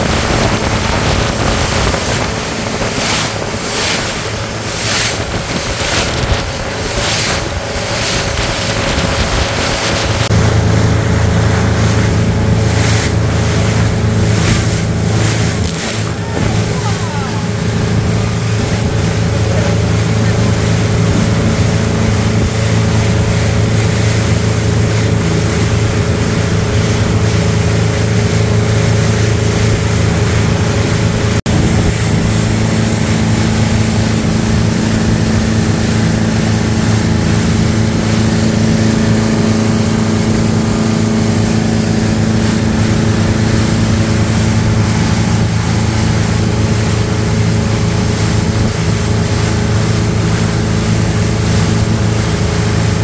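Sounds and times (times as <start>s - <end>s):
motorboat engine running: 0.0s - 53.0s
water rushing past hull: 0.0s - 53.0s.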